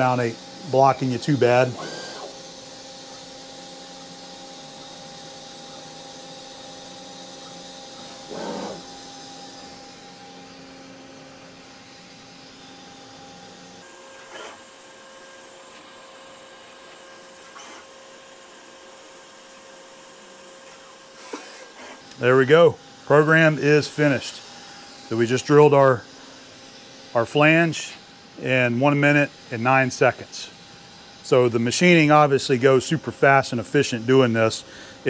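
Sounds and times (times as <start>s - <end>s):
mill machine whirring: 0.0s - 35.0s.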